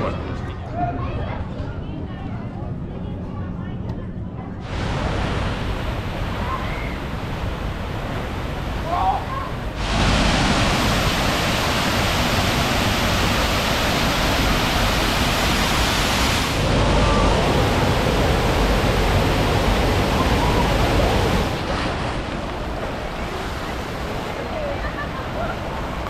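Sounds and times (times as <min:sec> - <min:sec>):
rush of waterfalls: 0:04.6 - 0:26.0.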